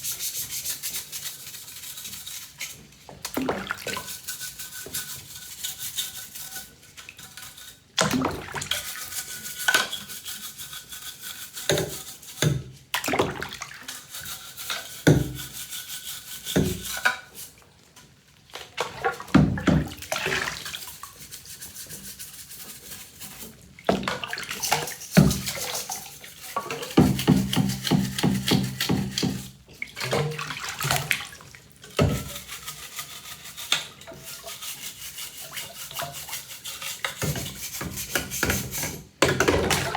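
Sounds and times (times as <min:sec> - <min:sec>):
brush scrubbing in soapy water: 0:00.0 - 0:17.7, 0:19.9 - 0:39.9.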